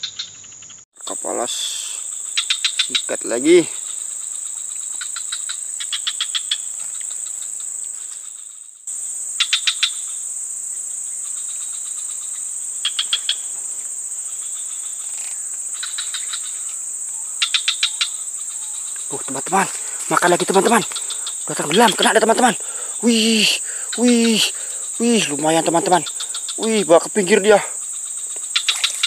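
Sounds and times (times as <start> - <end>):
insects droning: 0.0 - 29.0
rapid insect chirps: 0.0 - 29.0.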